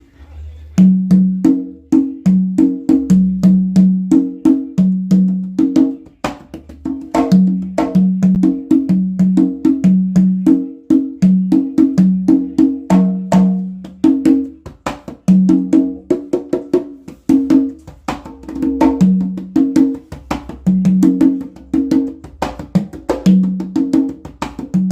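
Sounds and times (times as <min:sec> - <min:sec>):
congas played by hand: 0:00.8 - 0:24.9
sharp conga slaps: 0:00.8 - 0:24.9.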